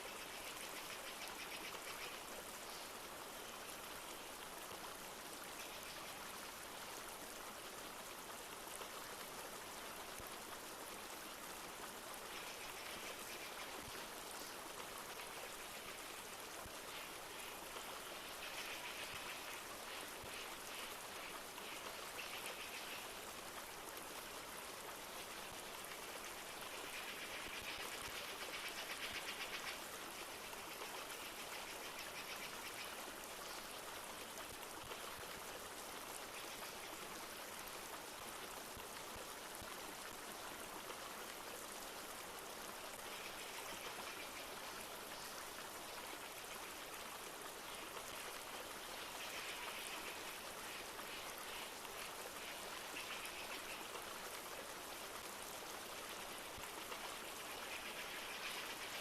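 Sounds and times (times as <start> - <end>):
light rain: 0.0 - 59.0
river water flowing: 0.0 - 59.0.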